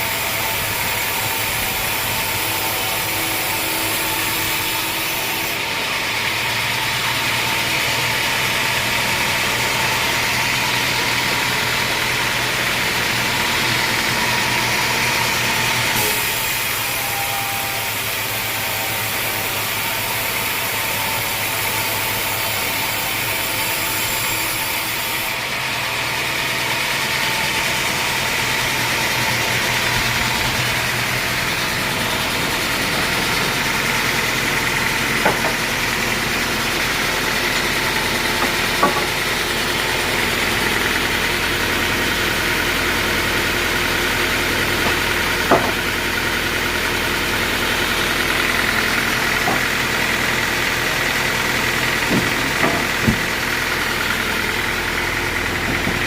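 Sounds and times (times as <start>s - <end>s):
constant machinery hiss: 0.0s - 56.0s
sawmill machinery drone: 0.0s - 56.0s.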